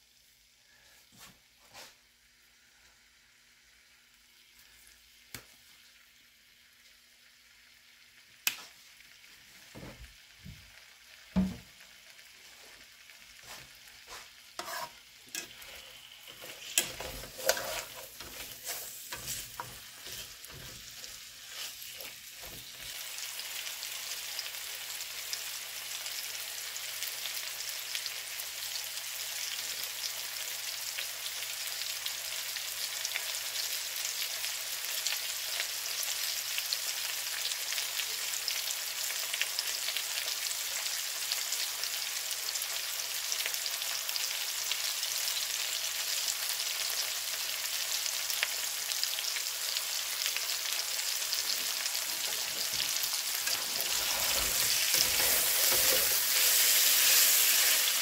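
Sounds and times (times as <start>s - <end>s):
vegetables sizzling in a skillet: 0.0s - 58.0s.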